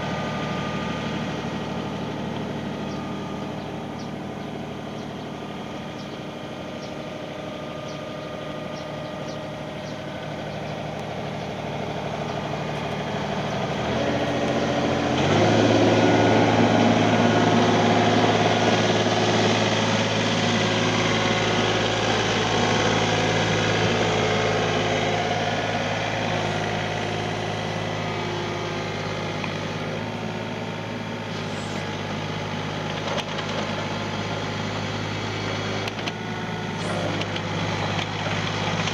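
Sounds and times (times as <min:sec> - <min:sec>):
excavator diesel engine idling: 0:00.0 - 0:38.9.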